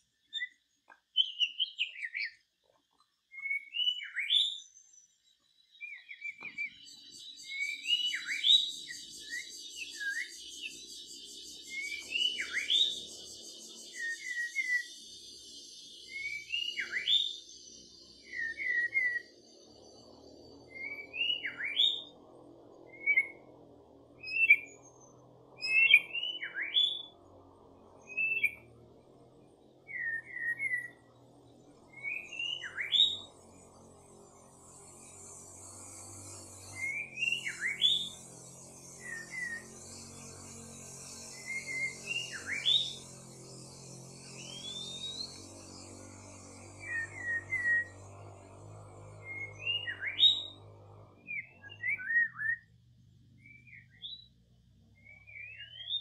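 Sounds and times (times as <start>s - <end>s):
bird whistled calls and trills: 0.0s - 23.5s, 24.2s - 56.0s.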